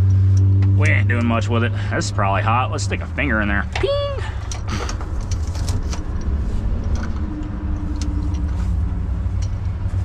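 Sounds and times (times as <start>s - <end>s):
motor vehicles rumbling: 0.0s - 10.0s.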